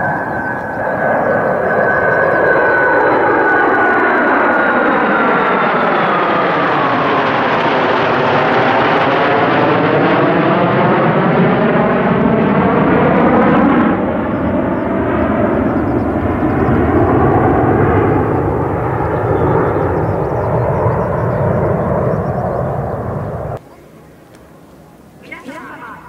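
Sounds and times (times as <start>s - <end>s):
jet fighters roaring overhead: 0.0s - 26.0s.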